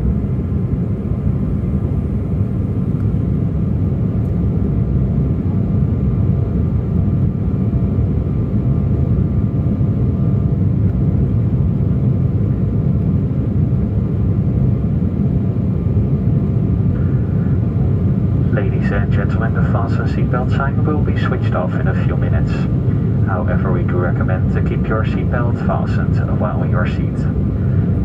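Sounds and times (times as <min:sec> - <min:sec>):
faint engine whine: 0:00.0 - 0:28.0
jet engines rushing in cabin: 0:00.0 - 0:28.0.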